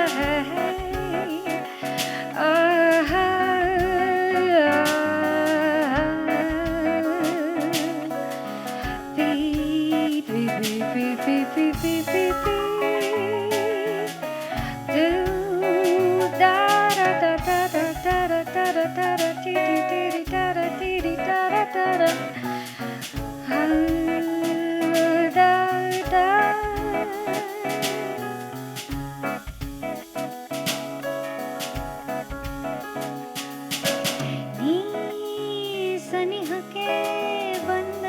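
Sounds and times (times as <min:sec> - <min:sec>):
bass: 0:00.0 - 0:34.8
drums: 0:00.0 - 0:38.0
guitar: 0:00.0 - 0:38.0.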